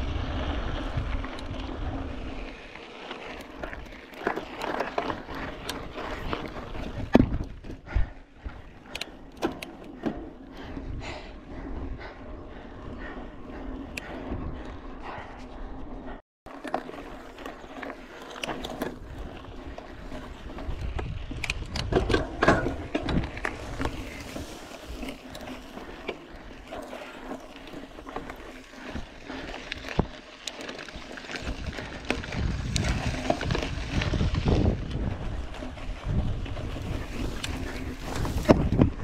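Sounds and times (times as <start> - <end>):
wind buffeting microphone: 0.0 - 2.6, 4.9 - 9.4, 10.0 - 16.2, 18.8 - 30.2, 31.3 - 39.0
bike tyre rumble: 0.0 - 39.0.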